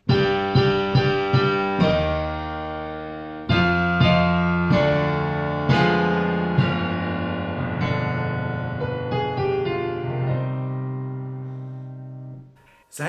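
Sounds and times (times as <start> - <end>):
piano-like keyboard chords: 0.0 - 12.6.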